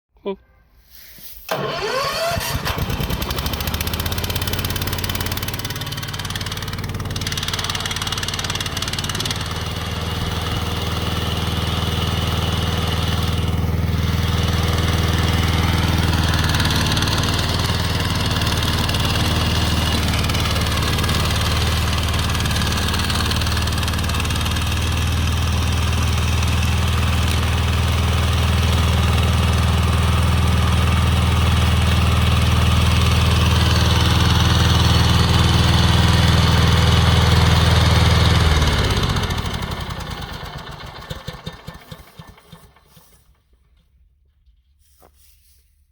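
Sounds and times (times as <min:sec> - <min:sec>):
mower engine running: 0:01.5 - 0:43.4.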